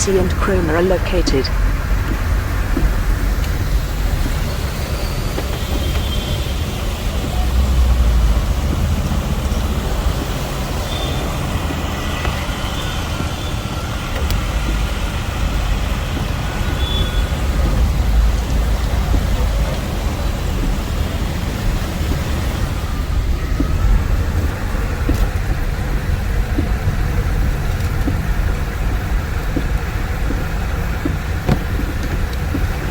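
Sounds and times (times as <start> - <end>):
vehicle engines rumbling: 0.0 - 32.9
tyres hissing on wet road: 1.6 - 32.9.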